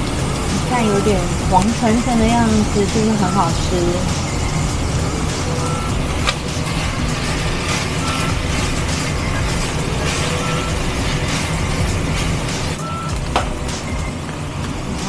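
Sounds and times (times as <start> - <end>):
pork sizzling in oil: 0.0 - 15.0.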